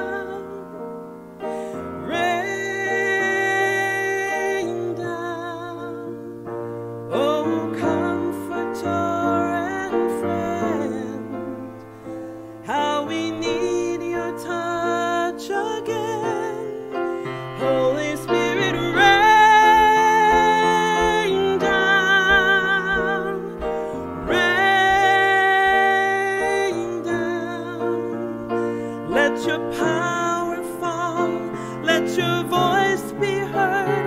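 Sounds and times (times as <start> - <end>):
woman singing a hymn: 0.0 - 0.8, 2.0 - 6.2, 7.1 - 11.9, 12.6 - 34.0
piano accompaniment: 0.0 - 34.0.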